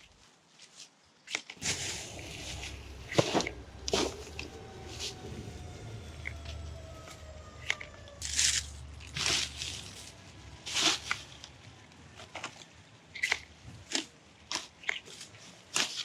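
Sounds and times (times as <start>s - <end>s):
litter crackling and rustling: 1.5s - 16.0s.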